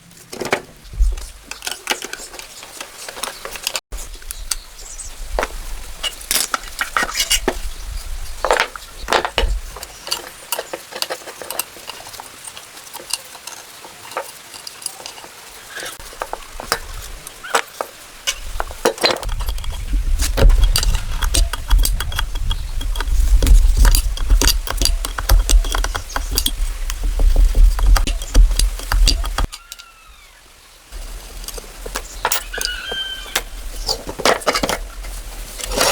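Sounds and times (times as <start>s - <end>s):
metal tools clinking and scraping: 0.2s - 3.8s, 6.0s - 7.6s, 8.4s - 30.0s, 31.0s - 35.9s.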